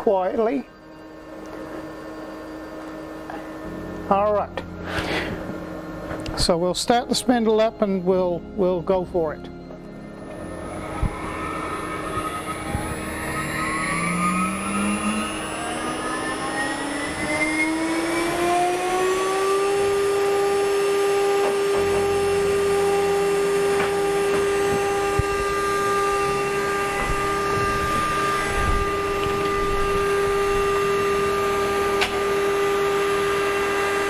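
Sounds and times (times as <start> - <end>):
router spindle whine: 0.0 - 4.8, 5.4 - 34.0.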